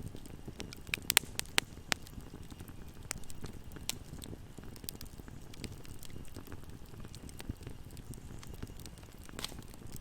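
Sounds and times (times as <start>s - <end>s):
fire crackling and popping: 0.0s - 10.0s
low rumble of burning: 0.0s - 10.0s.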